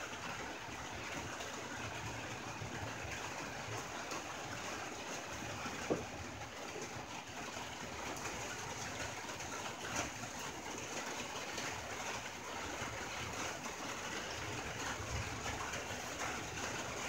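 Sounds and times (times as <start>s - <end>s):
rain on a tin roof: 0.0s - 17.0s.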